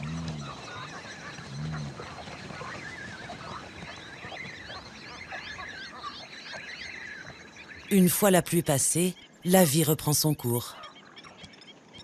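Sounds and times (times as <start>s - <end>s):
flock of birds calling: 0.0s - 11.6s.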